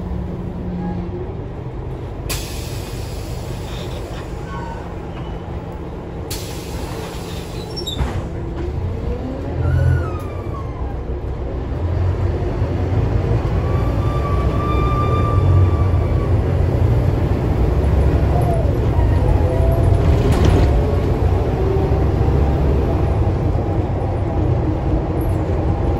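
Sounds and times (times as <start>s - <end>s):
bus engine and road rumble: 0.0s - 25.9s.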